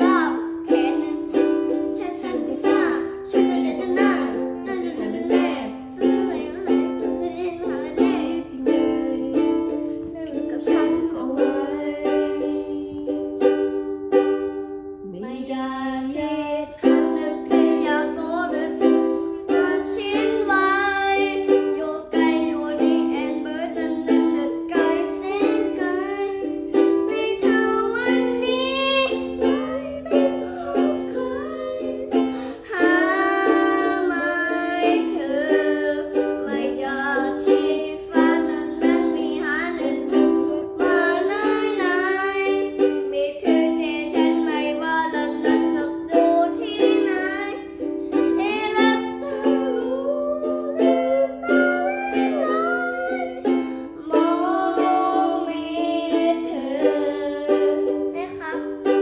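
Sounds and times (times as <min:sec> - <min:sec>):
strummed plucked-string accompaniment: 0:00.0 - 0:15.3, 0:16.0 - 0:59.0.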